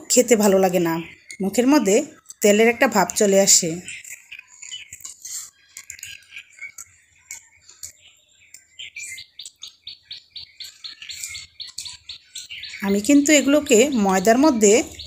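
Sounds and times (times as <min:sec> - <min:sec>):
small bird chirping: 0:00.5 - 0:15.0.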